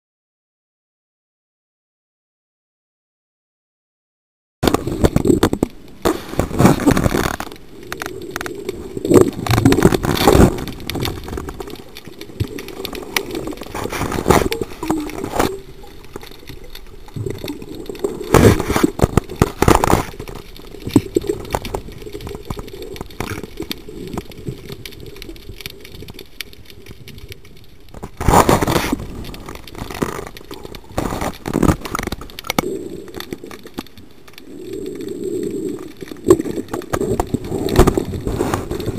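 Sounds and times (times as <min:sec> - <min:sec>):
muffled underwater noise: 0:04.7 - 0:38.9.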